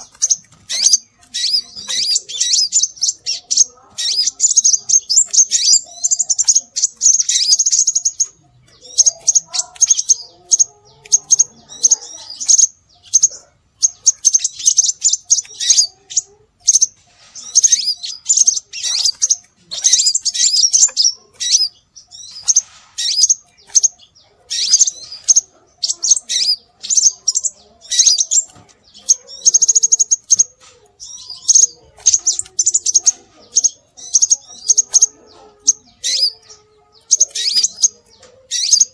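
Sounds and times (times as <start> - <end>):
bird rapid high-pitched chirps: 0.0 - 38.9.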